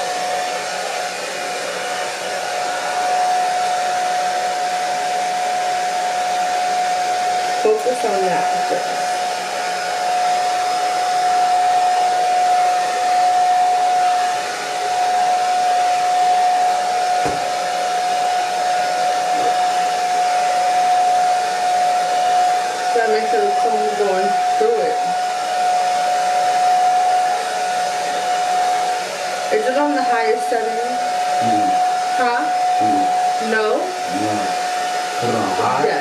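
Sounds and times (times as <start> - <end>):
hair dryer running: 0.0 - 36.0.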